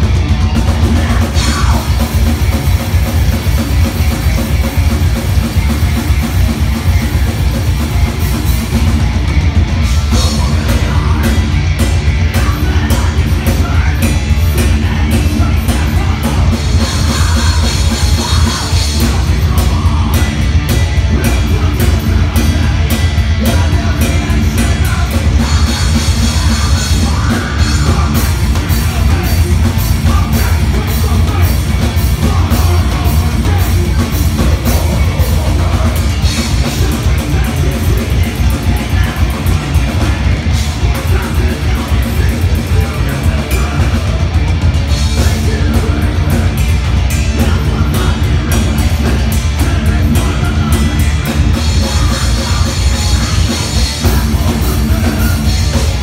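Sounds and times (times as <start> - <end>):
fast drum kit: 0.0 - 56.0
heavy metal band playing: 0.0 - 56.0
singer's vocals: 0.6 - 8.9, 9.8 - 56.0.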